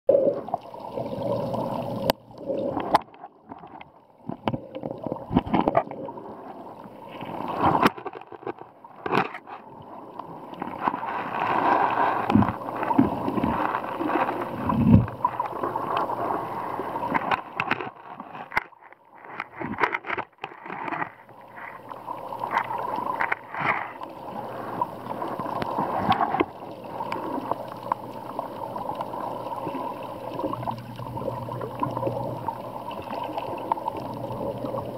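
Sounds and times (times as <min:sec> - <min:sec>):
muffled underwater sloshing: 0:00.1 - 0:34.9.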